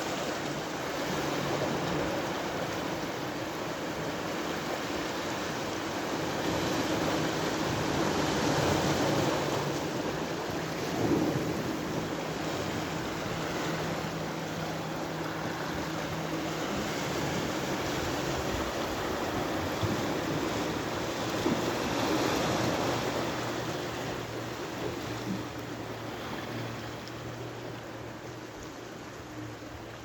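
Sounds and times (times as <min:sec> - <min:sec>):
low motor hum: 0:00.0 - 0:30.0
sea waves washing in: 0:00.0 - 0:30.0.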